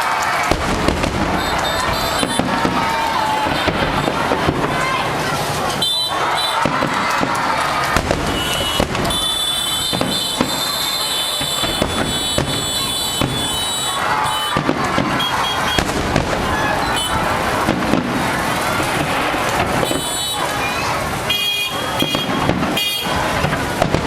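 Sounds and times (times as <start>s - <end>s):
fireworks crackling and banging: 0.0s - 24.0s
firework whistles: 0.4s - 4.8s, 5.6s - 23.6s.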